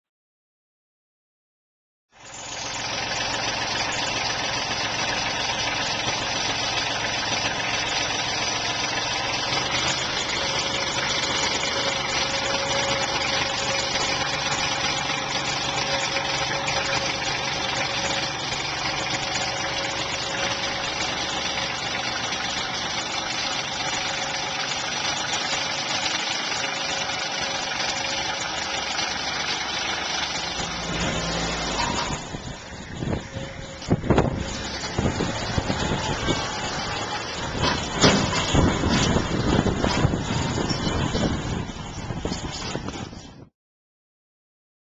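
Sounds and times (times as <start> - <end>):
engine running steadily: 2.2 - 43.5.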